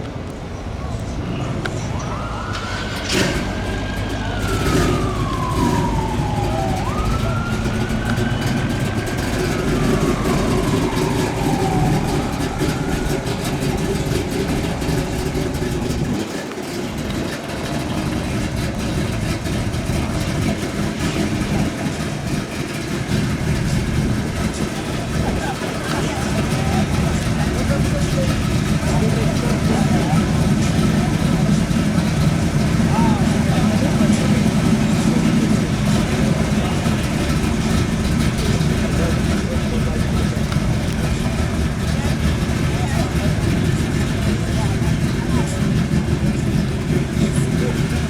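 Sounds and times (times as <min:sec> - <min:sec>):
low rumble of engines: 0:00.0 - 0:48.0
emergency vehicle siren wailing: 0:00.4 - 0:48.0.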